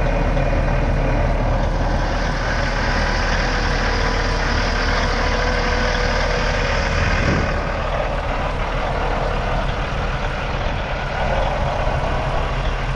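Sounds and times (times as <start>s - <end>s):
diesel truck engine idling: 0.0s - 12.9s.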